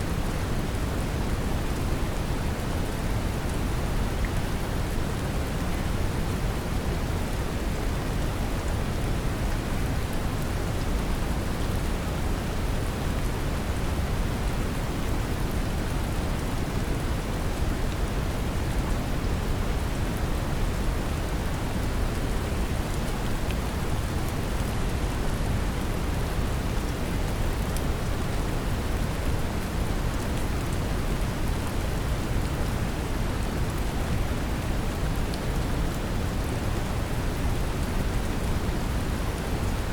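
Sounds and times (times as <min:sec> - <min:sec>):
gentle rain: 0:00.0 - 0:39.9.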